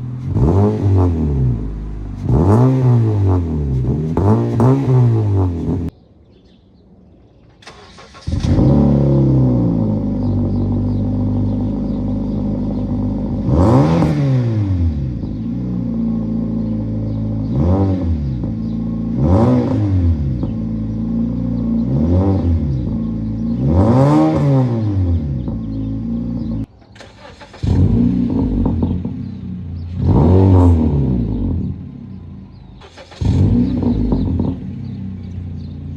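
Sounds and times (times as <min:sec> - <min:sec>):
car engine idling and revving: 0:00.0 - 0:06.0, 0:07.6 - 0:35.9.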